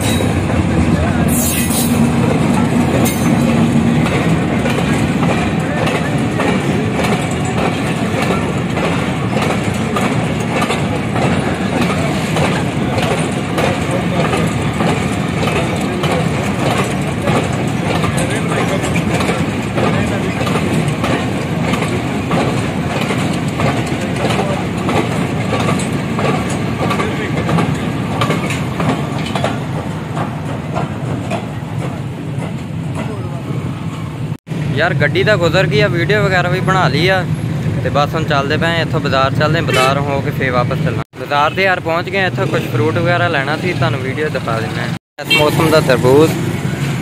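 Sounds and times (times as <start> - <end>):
train wheels rumbling on rail: 0.0 - 47.0
wheels clacking over rail joints: 0.0 - 47.0.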